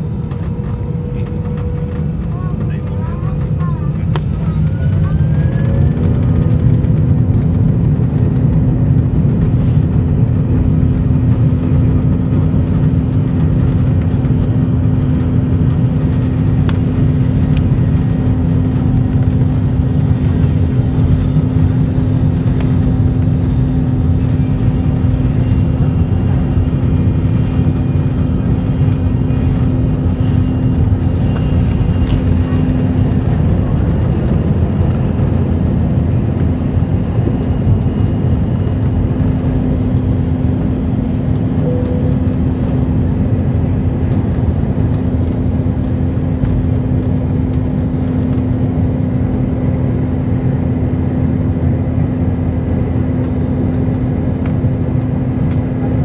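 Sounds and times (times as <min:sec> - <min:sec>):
steady hum: 0:00.0 - 0:49.0
jet engines low rumble: 0:00.0 - 0:56.0.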